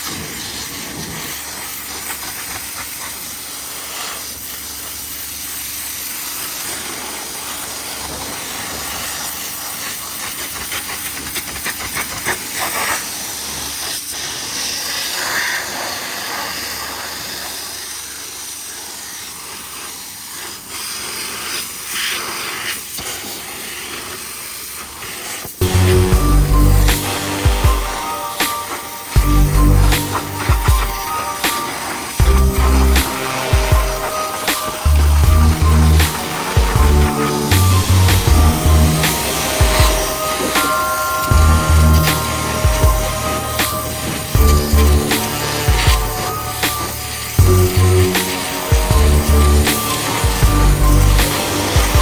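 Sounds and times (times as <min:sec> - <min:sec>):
pressure washer spraying water: 0:00.0 - 0:52.0.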